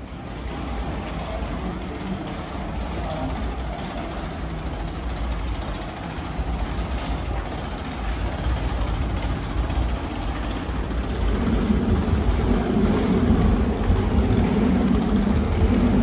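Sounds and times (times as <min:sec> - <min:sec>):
electric train rumbling: 0:00.0 - 0:16.0
low hum: 0:00.0 - 0:16.0.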